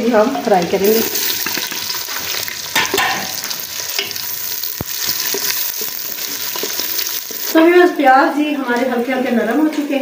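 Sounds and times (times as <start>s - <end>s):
onion sizzling in hot fat: 0.0s - 10.0s.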